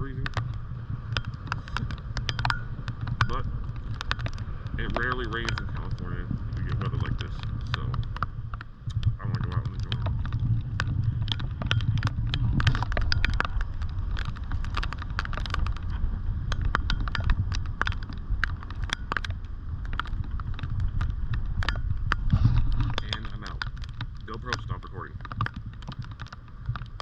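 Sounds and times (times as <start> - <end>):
sharp clicks and taps: 0.0 - 27.0
wind rumbling on camera housing: 0.0 - 27.0.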